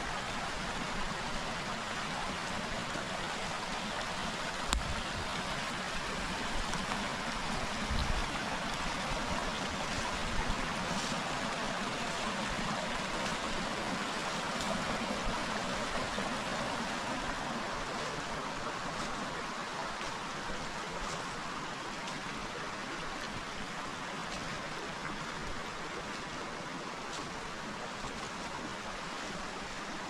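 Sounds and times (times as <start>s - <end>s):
river flowing: 0.0s - 30.0s.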